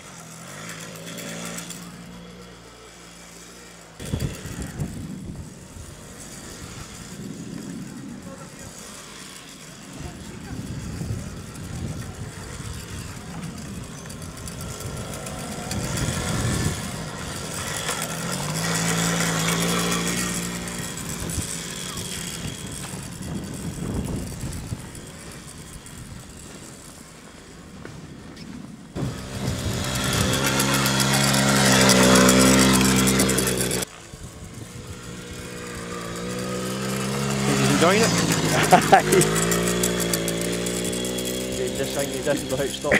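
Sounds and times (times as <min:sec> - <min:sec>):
quad bike engine running: 0:00.0 - 0:28.0, 0:28.9 - 0:42.9.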